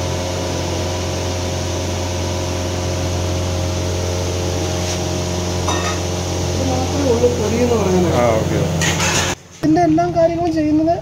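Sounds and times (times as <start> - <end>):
kitchen machinery humming: 0.0 - 11.0.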